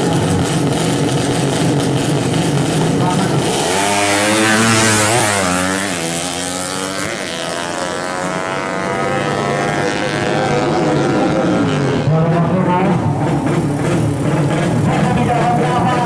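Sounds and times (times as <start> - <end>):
motorcycle engines at full throttle: 0.0 - 16.0.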